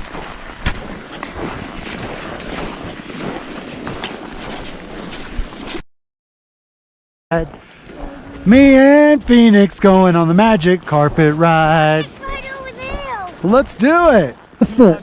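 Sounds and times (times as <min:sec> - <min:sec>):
skis scraping on snow: 0:00.0 - 0:05.8, 0:07.8 - 0:15.0.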